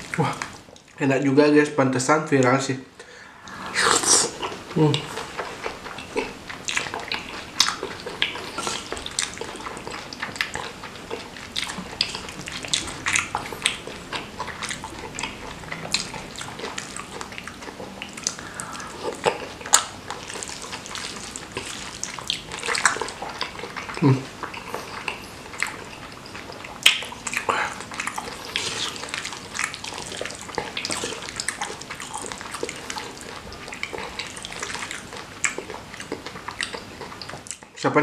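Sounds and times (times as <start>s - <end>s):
wet chewing and lip smacking: 3.5s - 37.8s.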